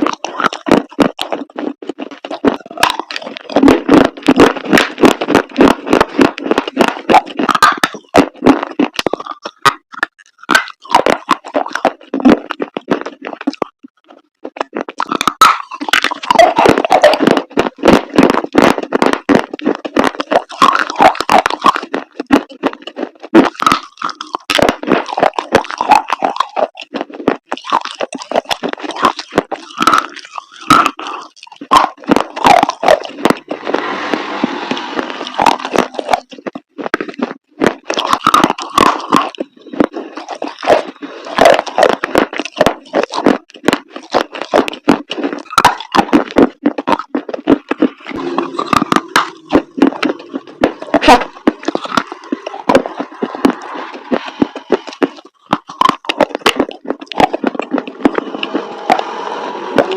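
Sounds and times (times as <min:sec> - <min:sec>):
chalk crunching and cracking: 0:00.0 - 0:59.9.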